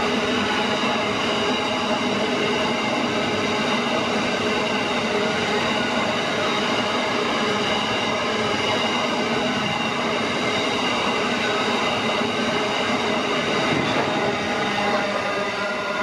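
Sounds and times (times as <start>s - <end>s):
train wagons rumbling and rattling: 0.0s - 16.0s.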